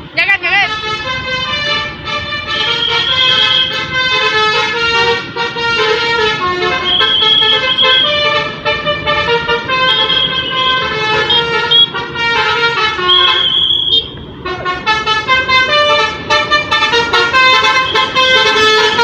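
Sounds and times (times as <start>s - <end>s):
bus musical horn playing tune: 0.0s - 19.0s.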